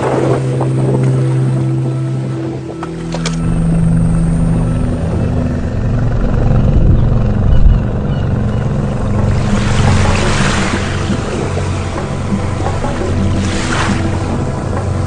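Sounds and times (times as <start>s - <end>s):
rushing water: 0.0s - 6.4s, 8.4s - 15.0s
boat engine rumbling: 0.0s - 15.0s
wind: 0.0s - 15.0s.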